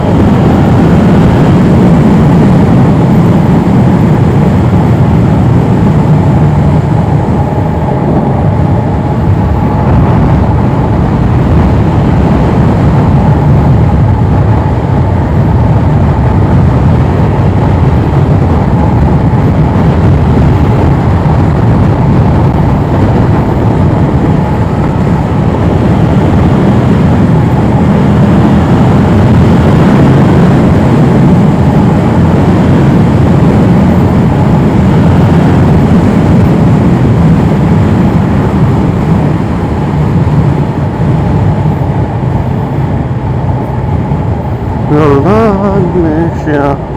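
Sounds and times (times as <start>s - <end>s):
motorcycle engine running: 0.0s - 46.9s
wind rushing over microphone: 0.0s - 46.9s.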